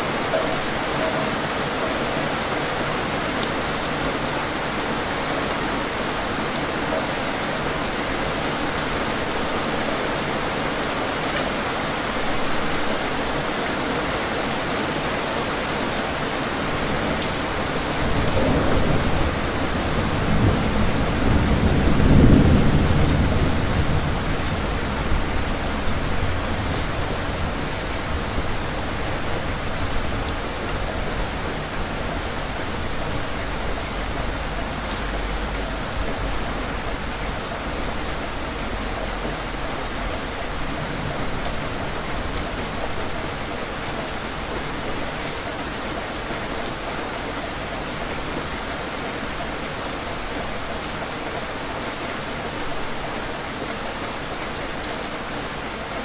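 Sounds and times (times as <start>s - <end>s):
heavy rain on hard surfaces: 0.0s - 56.0s.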